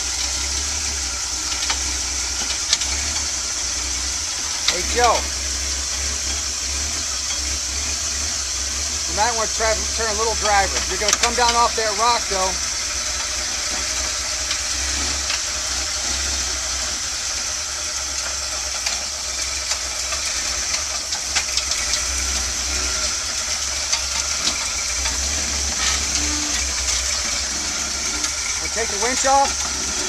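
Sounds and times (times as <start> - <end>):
engine running low and uneven: 0.0 - 30.0
tires knocking on rock: 0.0 - 30.0.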